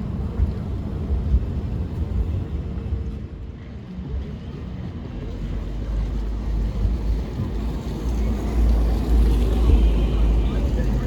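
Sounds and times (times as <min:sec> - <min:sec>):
tram rumbling: 0:00.0 - 0:11.0.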